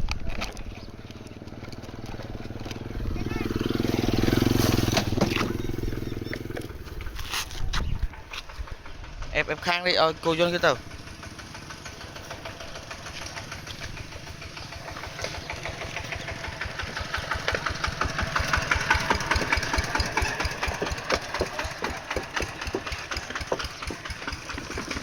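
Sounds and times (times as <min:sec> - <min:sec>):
engine knocking: 0:00.0 - 0:07.2, 0:07.9 - 0:25.0.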